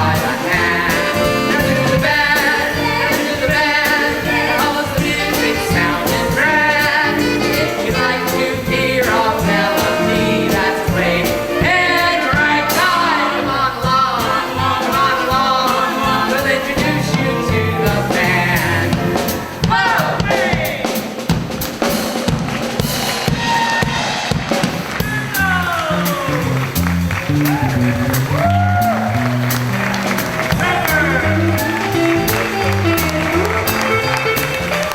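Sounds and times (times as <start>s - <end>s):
drum kit beat: 0.0s - 34.9s
instrumental accompaniment: 0.0s - 34.9s.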